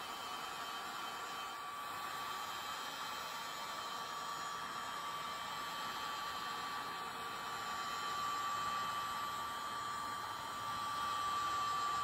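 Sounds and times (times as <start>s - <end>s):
heat gun high whine: 0.0s - 12.0s.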